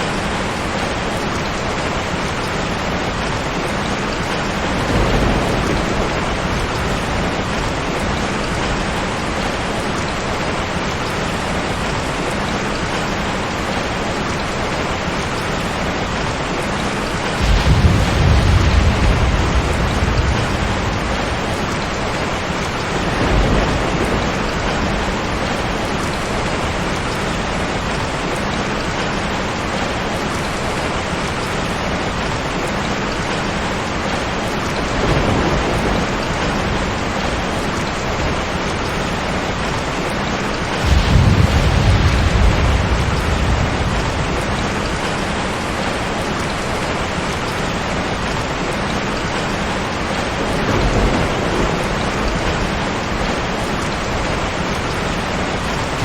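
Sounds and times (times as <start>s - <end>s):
heavy rain: 0.0s - 56.0s
thunder rumbling: 2.4s - 14.0s, 16.8s - 29.0s, 33.6s - 56.0s.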